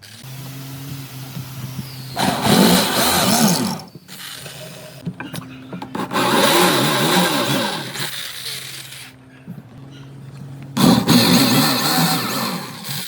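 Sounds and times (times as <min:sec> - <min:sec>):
power tool cutting wood: 0:00.0 - 0:09.2, 0:10.7 - 0:13.0.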